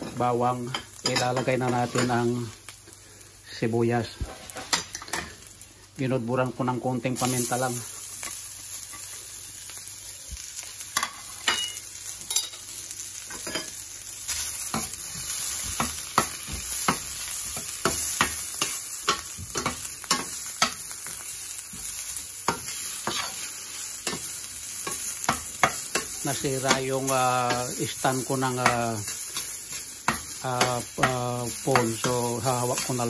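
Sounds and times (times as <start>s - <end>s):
onion sizzling in oil: 0.0s - 33.0s.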